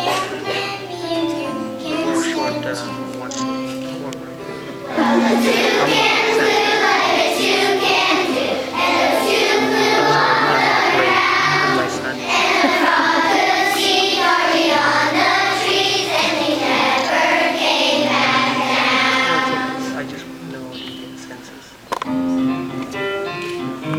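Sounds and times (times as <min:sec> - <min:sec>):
children's choir singing: 0:00.0 - 0:03.0, 0:04.6 - 0:21.3
held low accompaniment notes: 0:00.0 - 0:23.9.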